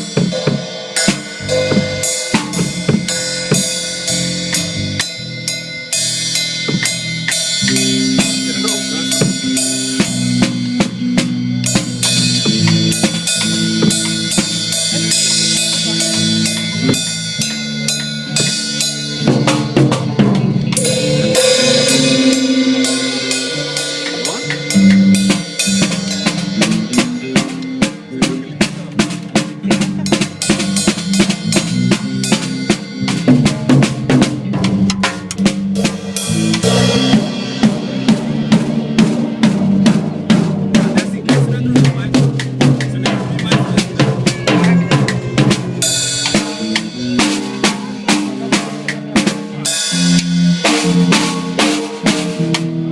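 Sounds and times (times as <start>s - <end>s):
bass line: 0.0s - 52.9s
drum kit playing busy beats: 0.0s - 52.9s.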